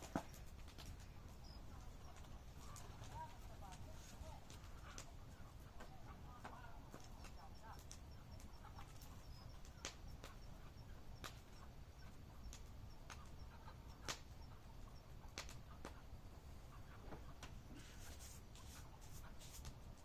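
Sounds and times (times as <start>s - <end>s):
campfire crackling and popping: 0.0s - 16.6s.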